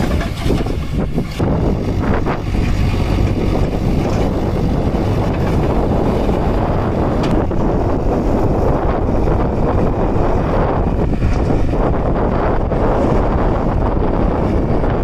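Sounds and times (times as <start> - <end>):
diesel engine under load: 0.0 - 15.0
wind buffeting microphone: 0.0 - 15.0.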